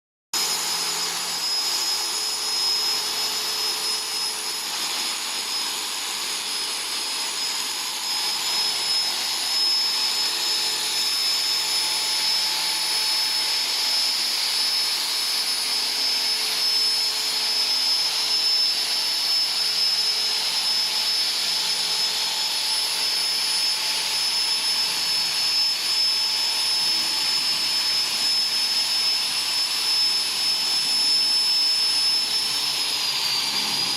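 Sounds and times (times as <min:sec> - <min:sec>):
power tool motor whining: 0:00.4 - 0:33.9.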